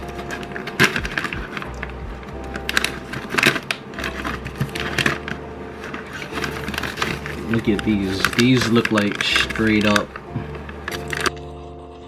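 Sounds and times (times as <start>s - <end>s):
snack bag crinkling and tearing: 0.0s - 11.5s
background music: 0.0s - 12.0s.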